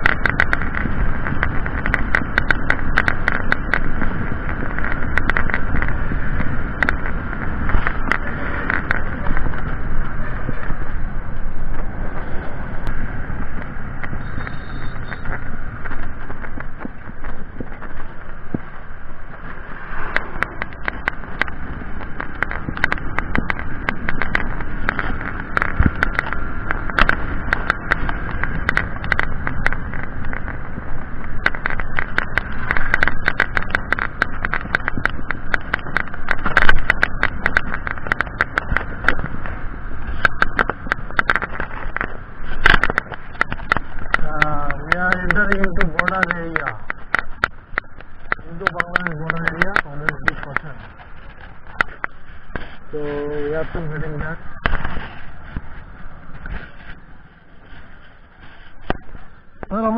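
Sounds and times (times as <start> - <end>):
motorcycle engine: 0.0 - 59.9
road noise: 0.0 - 59.9
sharp clicks and crackles: 0.0 - 59.9
wind noise: 0.0 - 59.9.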